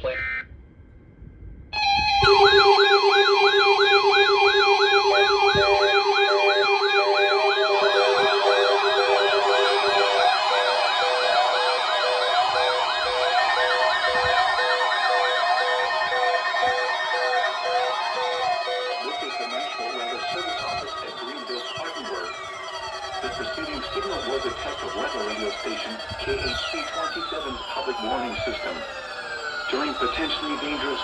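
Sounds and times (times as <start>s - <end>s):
on-off beeps: 1.8s - 28.9s
layered electronic sirens wailing: 1.8s - 31.0s.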